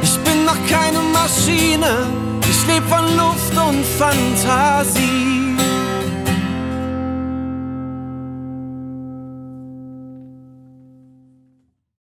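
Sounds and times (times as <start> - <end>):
acoustic guitar chord ringing: 0.0 - 11.6.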